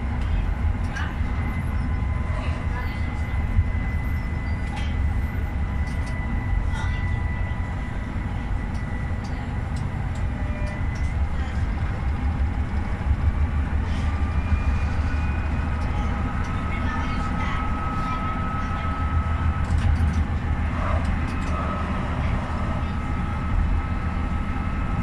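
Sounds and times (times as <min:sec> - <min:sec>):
tram low rumble: 0:00.0 - 0:25.0.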